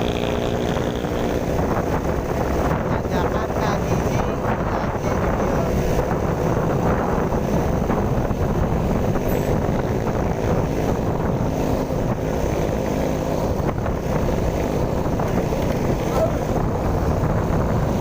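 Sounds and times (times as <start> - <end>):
vehicle engines in slow traffic: 0.0 - 18.0
wind buffeting microphone: 0.0 - 18.0.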